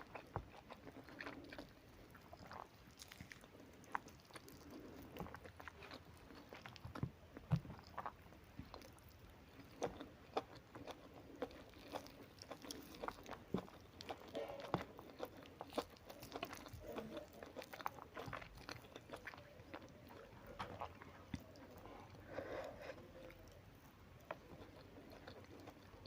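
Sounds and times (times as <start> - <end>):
person chewing and crunching food: 0.0 - 26.0.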